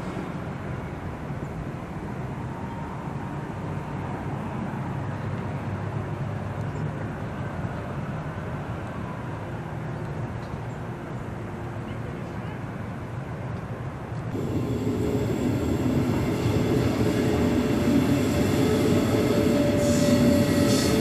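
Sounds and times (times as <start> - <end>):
distant traffic rumble: 0.0 - 21.0.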